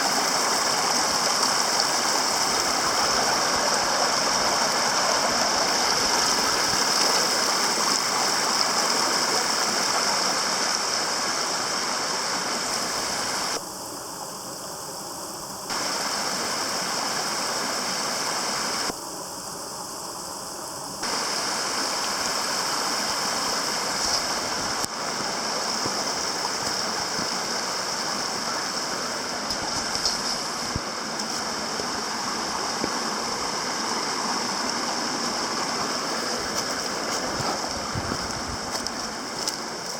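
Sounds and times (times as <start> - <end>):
water running over waterfall: 0.0 - 39.9.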